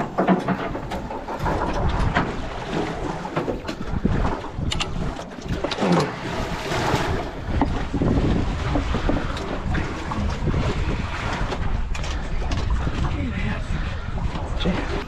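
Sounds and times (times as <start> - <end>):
water lapping at boat hull: 0.0 - 15.0
wind buffeting microphone: 0.0 - 15.0.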